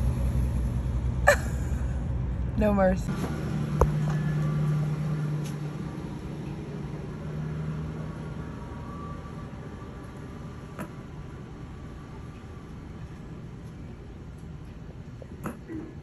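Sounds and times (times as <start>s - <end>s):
traffic noise: 0.0s - 16.0s
vehicle engine humming: 0.0s - 16.0s.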